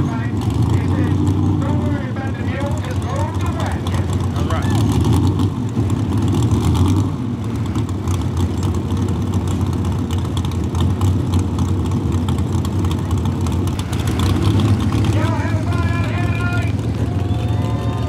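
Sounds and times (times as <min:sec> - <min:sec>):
truck engine idling deep: 0:00.0 - 0:18.0.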